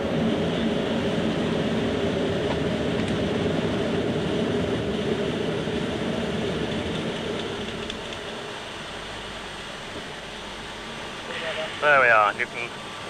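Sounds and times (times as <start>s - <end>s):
rushing airflow noise: 0.0s - 13.0s.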